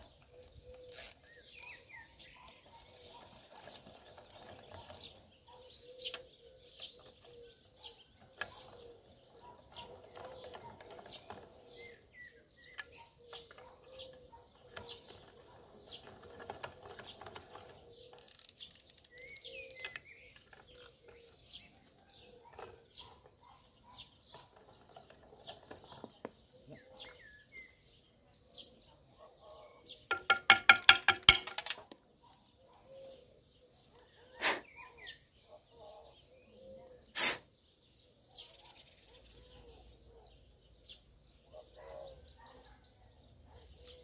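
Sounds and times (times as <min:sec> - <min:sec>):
birds chirping faintly: 0:00.0 - 0:44.0.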